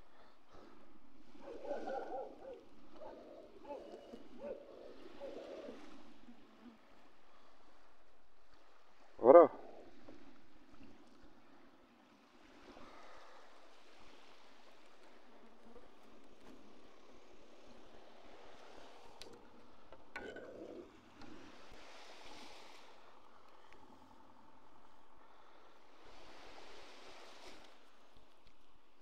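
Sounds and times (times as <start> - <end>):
faint water wash: 0.0 - 29.0.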